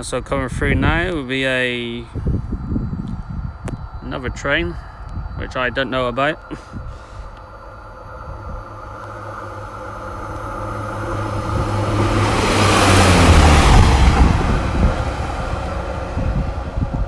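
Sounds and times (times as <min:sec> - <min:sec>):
diesel train engine drone: 0:00.0 - 0:17.0
train wheel noise: 0:00.0 - 0:17.0.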